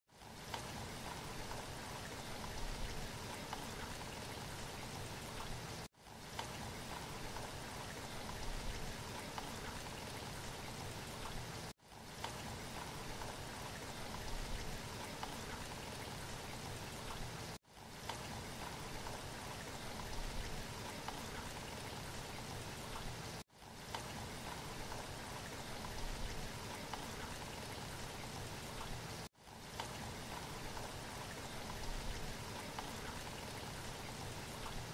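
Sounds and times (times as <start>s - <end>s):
rain-like hiss: 0.1s - 34.9s.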